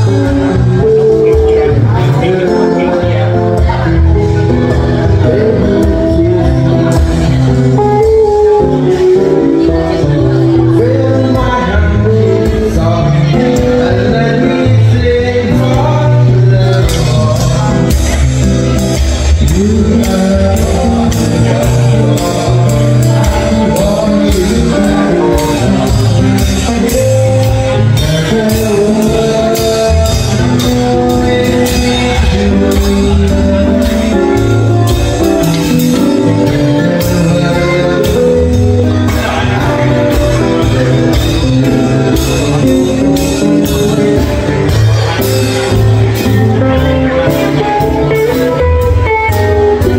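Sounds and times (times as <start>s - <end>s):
drum kit beat: 0.0s - 49.9s
guitars: 0.0s - 49.9s
man singing into a microphone: 0.0s - 49.9s.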